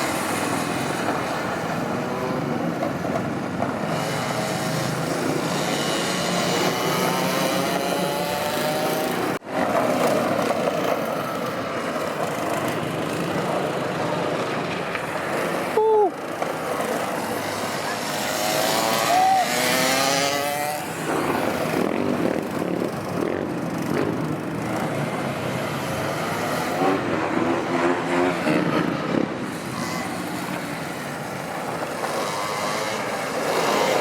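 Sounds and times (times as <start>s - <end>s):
motorcycle engines revving past: 0.0s - 34.0s.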